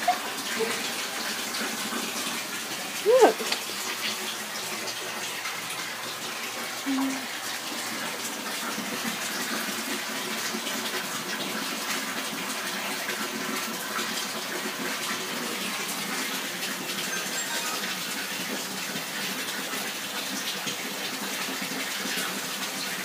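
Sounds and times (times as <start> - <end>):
faucet water running into sink: 0.0 - 23.0.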